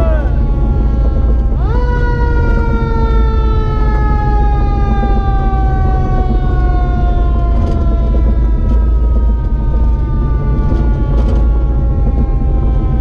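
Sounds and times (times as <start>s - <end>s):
low rumble of vehicle and wind: 0.0s - 13.0s
siren wailing: 0.0s - 13.0s.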